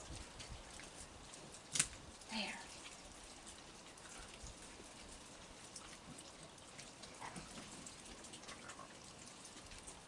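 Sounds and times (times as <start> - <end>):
light rain pattering: 0.0 - 10.0.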